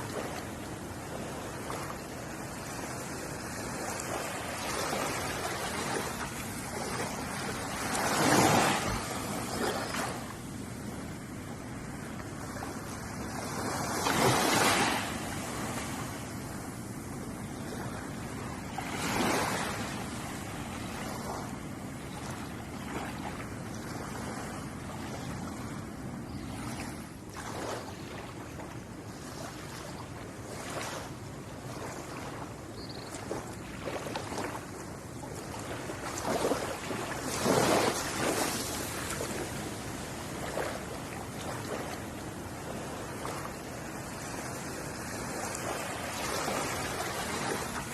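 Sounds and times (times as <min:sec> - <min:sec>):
ocean waves breaking: 0:00.0 - 0:25.8, 0:26.5 - 0:47.9.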